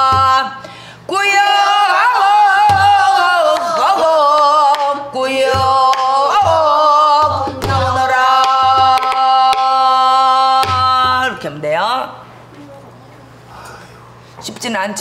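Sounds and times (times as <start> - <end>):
woman singing with vibrato: 0.0 - 12.2.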